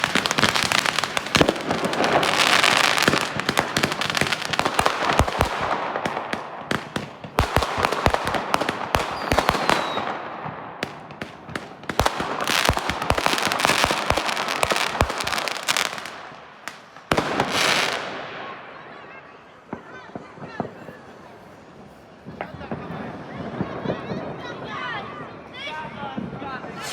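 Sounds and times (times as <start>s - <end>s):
fireworks crackling and banging: 0.0s - 24.8s, 26.2s - 26.9s.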